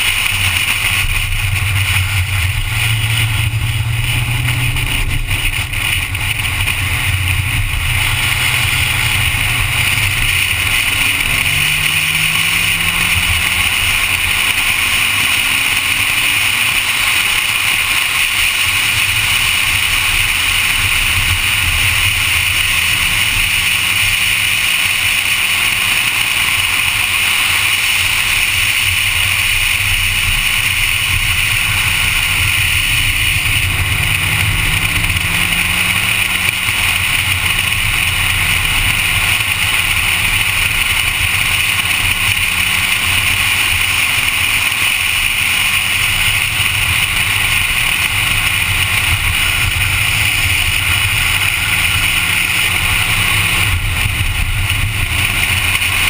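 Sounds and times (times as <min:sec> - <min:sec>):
car engine drone: 0:00.0 - 0:56.0
road and wind noise: 0:00.0 - 0:56.0.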